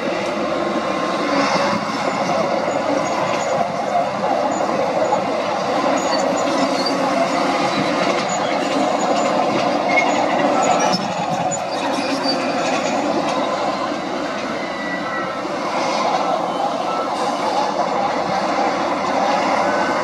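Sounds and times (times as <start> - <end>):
steel tracks clattering: 0.0 - 20.0.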